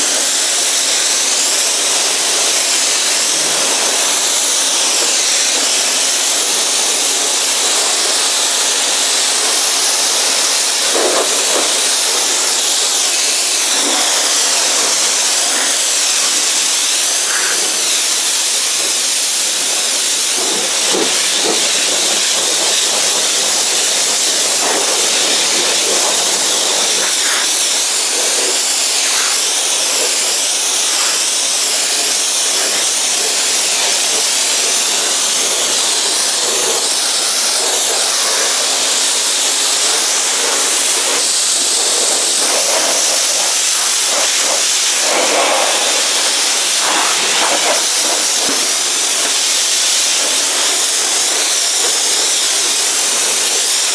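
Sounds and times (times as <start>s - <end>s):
pressure washer spraying water: 0.0s - 53.9s.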